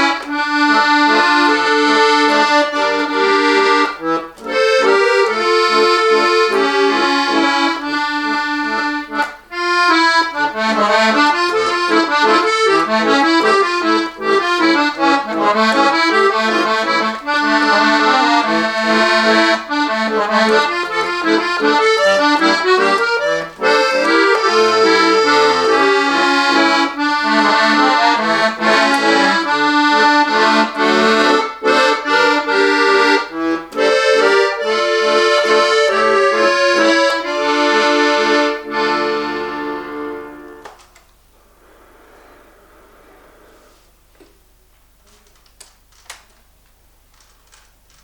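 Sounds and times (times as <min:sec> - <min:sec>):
button accordion playing: 0:00.0 - 0:40.8.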